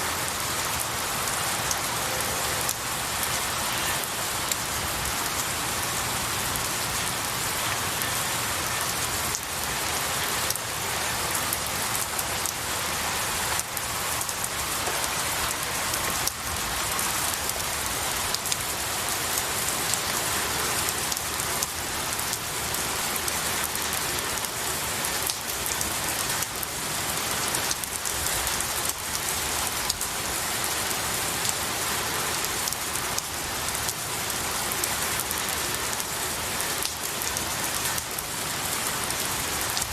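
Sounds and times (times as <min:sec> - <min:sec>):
rain on pine needles: 0:00.0 - 0:39.9.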